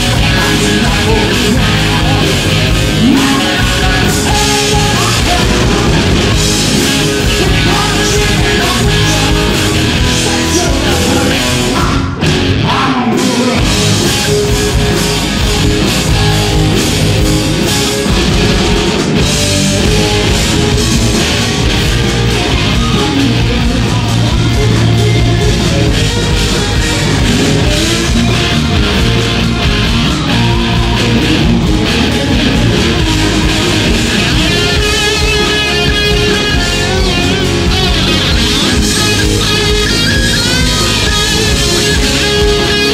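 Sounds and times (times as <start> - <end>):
bass guitar: 0.0 - 42.9
distorted electric guitars: 0.0 - 42.9
drums: 0.0 - 42.9.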